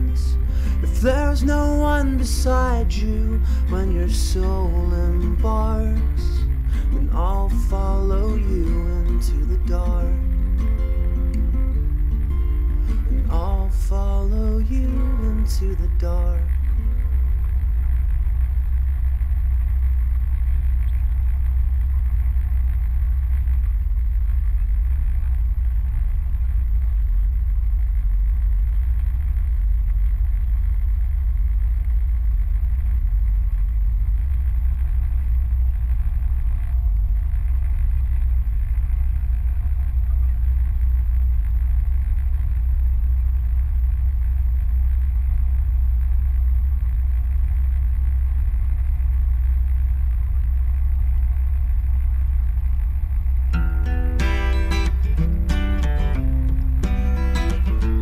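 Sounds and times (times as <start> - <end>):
motorboat engine droning: 0.0 - 58.0.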